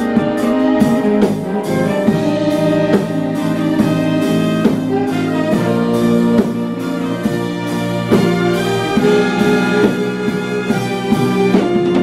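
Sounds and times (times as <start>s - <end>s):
brass instrument: 0.0s - 12.0s.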